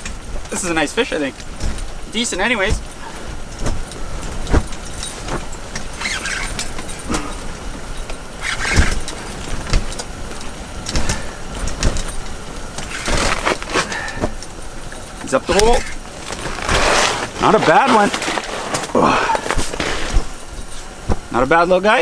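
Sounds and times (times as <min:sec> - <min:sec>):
knocks and clicks of gear handling: 0:00.0 - 0:21.6.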